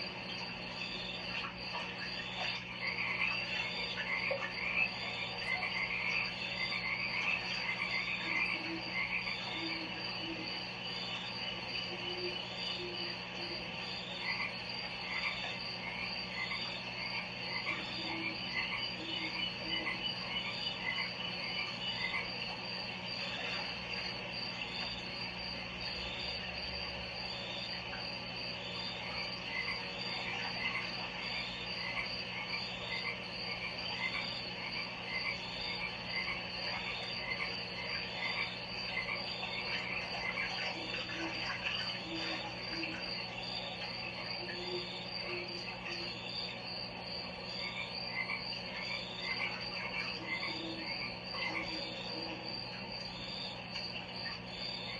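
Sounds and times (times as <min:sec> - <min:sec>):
frogs croaking: 0:00.0 - 0:54.9
low steady hum: 0:00.0 - 0:54.9.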